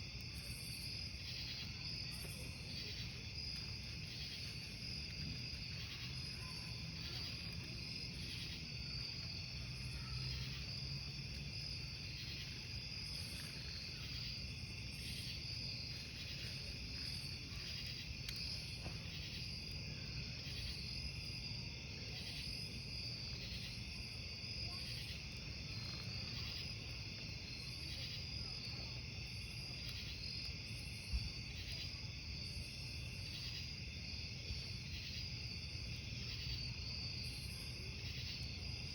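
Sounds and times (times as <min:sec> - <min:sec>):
crickets chirping: 0:00.0 - 0:38.9
campfire wood crackle-pop: 0:00.1 - 0:38.9.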